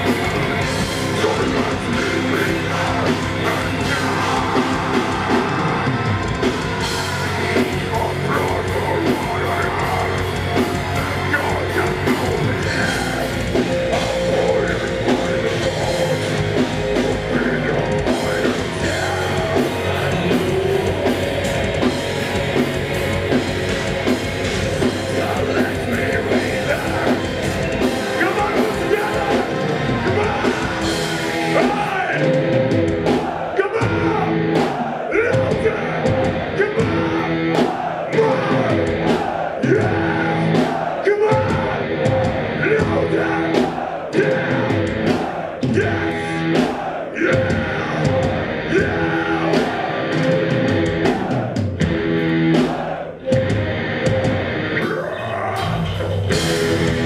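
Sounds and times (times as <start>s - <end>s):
distorted electric guitars: 0.0s - 57.0s
drum kit: 0.0s - 57.0s
metal vocals: 0.0s - 57.0s.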